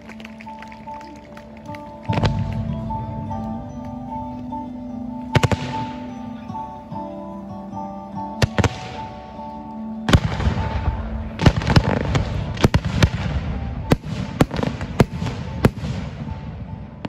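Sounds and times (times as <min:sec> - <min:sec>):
music with held notes: 0:00.0 - 0:17.0.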